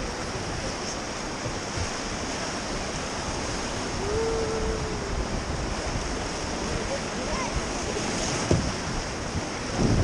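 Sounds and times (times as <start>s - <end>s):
white water rushing: 0.0s - 10.0s.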